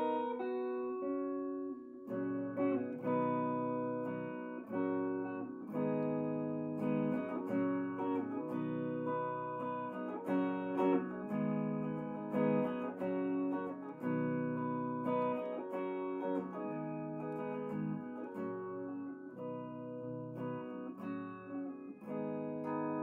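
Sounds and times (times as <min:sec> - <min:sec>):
clean electric guitar chords: 0:00.0 - 0:23.0.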